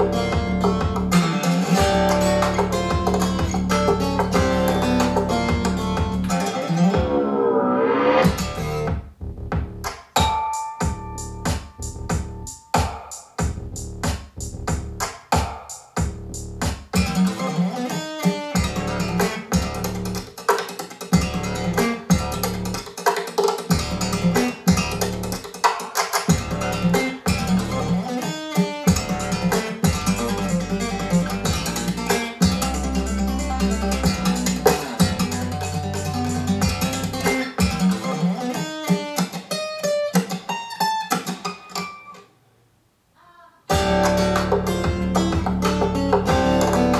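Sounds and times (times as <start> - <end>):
plucked guitar music: 0.0 - 7.6, 10.2 - 12.9, 17.0 - 25.7, 26.3 - 42.3, 43.7 - 46.9.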